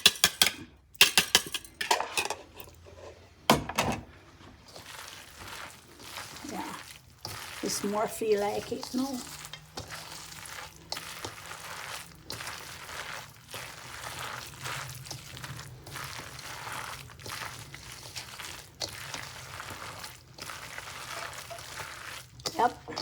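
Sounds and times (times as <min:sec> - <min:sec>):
batter squishing in a bowl: 0:04.2 - 0:23.0.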